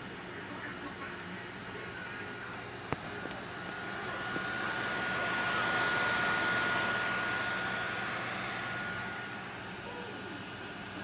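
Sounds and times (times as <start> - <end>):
laptop cooling fan blowing: 0.0 - 11.0.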